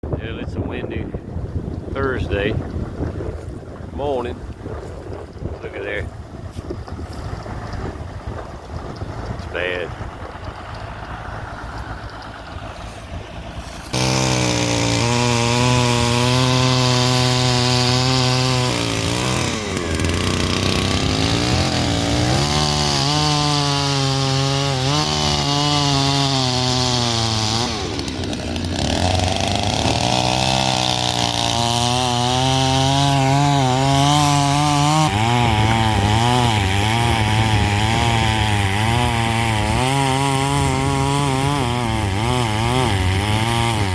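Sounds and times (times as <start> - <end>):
chainsaw running: 1.9 - 43.9.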